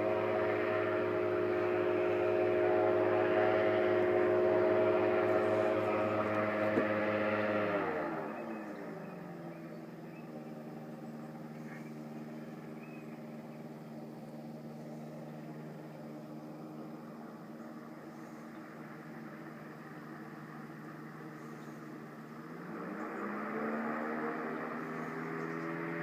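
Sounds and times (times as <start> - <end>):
airboat engine and propeller: 0.0 - 26.0.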